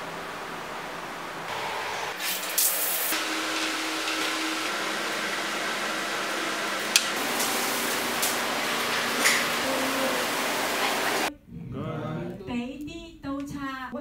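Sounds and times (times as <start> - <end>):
steady background hiss: 0.0 - 12.7.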